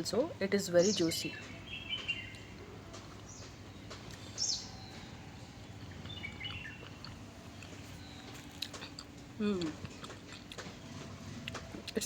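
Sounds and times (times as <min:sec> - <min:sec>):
birds chirping: 0:00.0 - 0:12.0
low background hum: 0:00.0 - 0:12.0.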